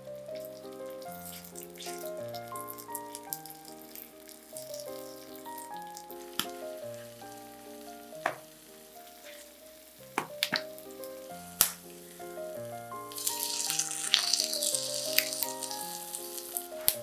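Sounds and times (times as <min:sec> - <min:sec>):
food frying in butter: 0:00.0 - 0:17.0
light background music: 0:00.0 - 0:17.0.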